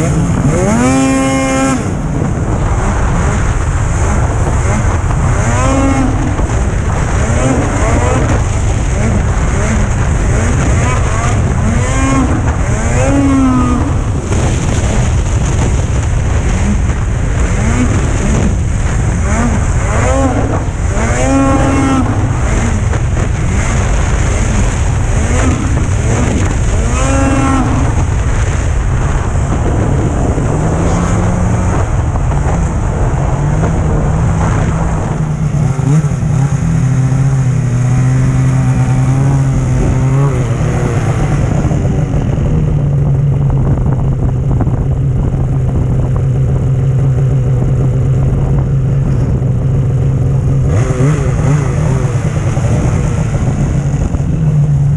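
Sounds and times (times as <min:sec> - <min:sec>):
snowmobile engine revving and idling: 0:00.0 - 0:54.9.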